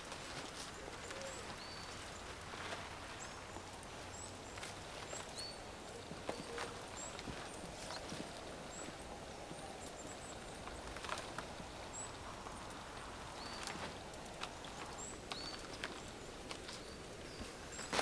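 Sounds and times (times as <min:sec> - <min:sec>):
small birds chirping: 0:00.0 - 0:18.0
steady outdoor hiss: 0:00.0 - 0:18.0.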